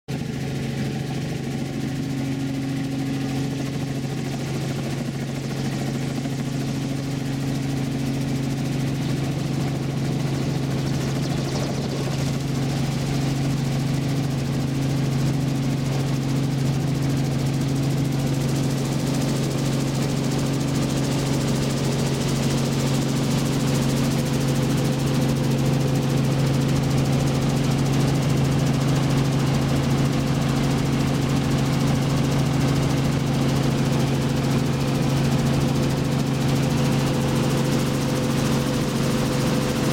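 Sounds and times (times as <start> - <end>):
helicopter engine and rotors: 0.1 - 39.9.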